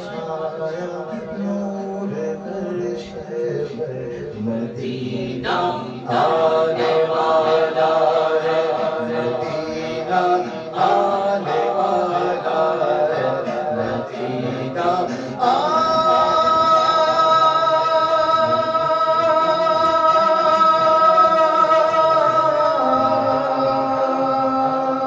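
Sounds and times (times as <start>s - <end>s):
men singing a devotional song: 0.0s - 25.0s.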